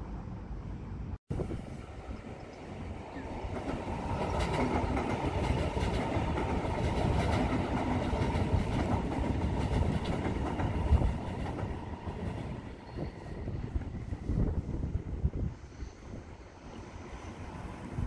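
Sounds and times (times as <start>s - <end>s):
train wheels rumbling on rails: 1.4s - 18.0s.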